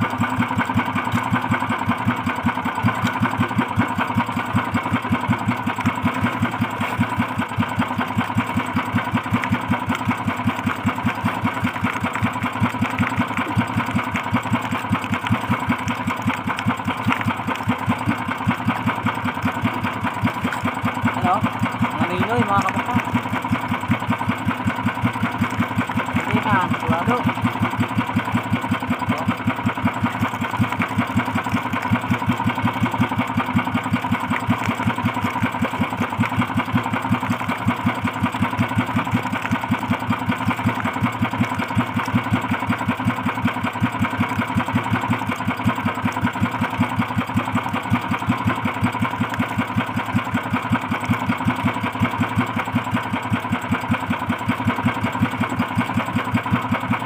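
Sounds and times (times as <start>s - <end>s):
small boat engine chugging: 0.0s - 57.0s.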